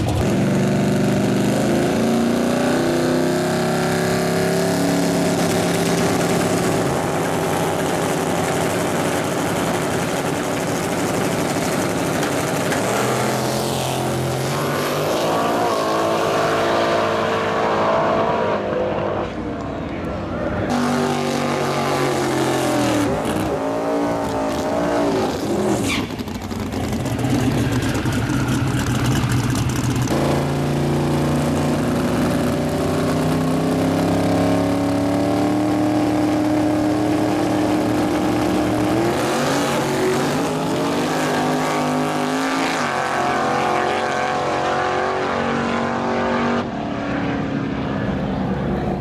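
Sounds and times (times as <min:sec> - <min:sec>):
race car engines idling and revving: 0:00.0 - 0:49.0.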